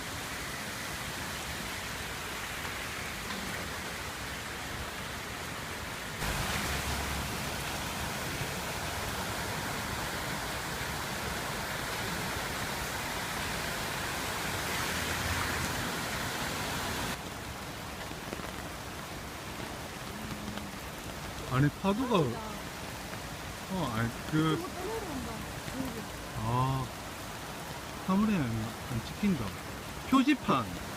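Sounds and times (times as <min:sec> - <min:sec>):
heavy rain: 0:00.0 - 0:30.9
stream rushing water: 0:00.0 - 0:30.9.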